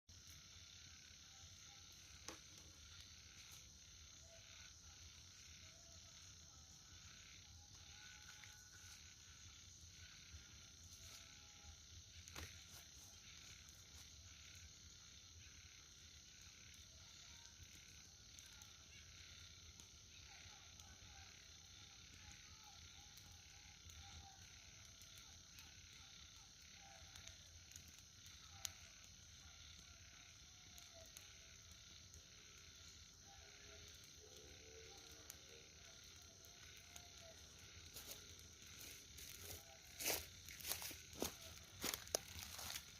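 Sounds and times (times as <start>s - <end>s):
campfire crackling: 0.1s - 42.9s
high-pitched insect chorus: 0.1s - 42.9s
soft insect chirps: 0.1s - 42.9s.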